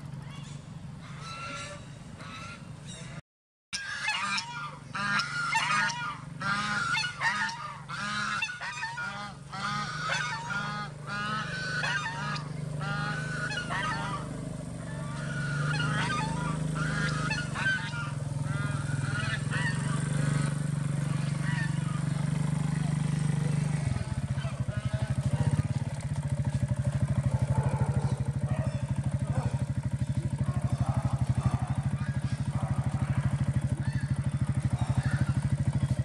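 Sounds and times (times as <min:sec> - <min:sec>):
small motorcycle engine humming: 0:00.0 - 0:03.2, 0:03.8 - 0:36.0
honking bird calls: 0:00.3 - 0:03.2, 0:03.8 - 0:36.0.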